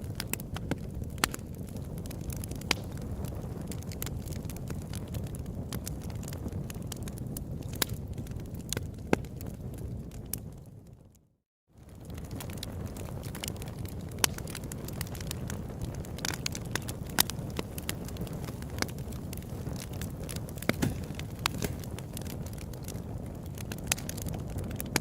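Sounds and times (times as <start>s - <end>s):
campfire crackling and popping: 0.0s - 11.2s, 11.8s - 25.0s
low fire rumble: 0.0s - 25.0s.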